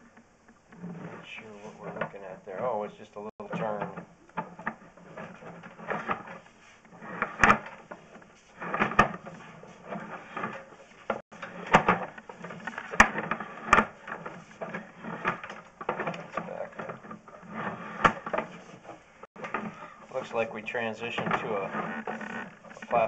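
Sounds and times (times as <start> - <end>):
cable rubbing and scraping: 0.7 - 2.8, 3.4 - 23.0.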